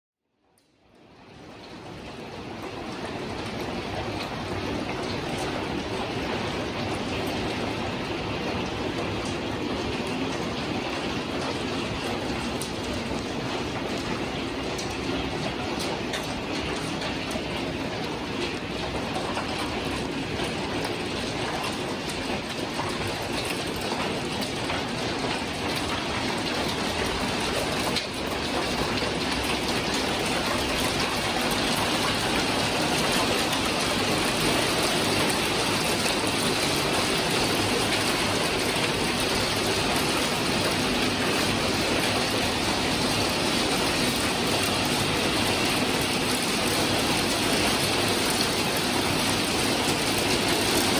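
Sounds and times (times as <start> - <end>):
hail and rain on windows: 0.4 - 50.9.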